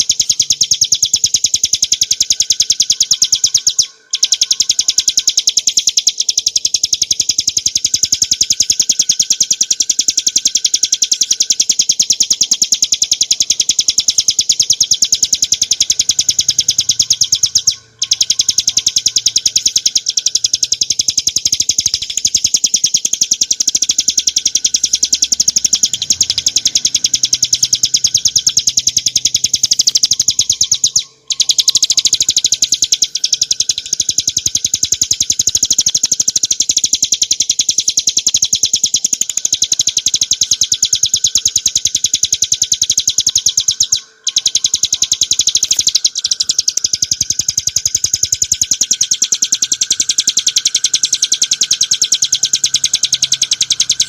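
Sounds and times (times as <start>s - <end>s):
bird singing fast high trill: 0.0s - 54.0s.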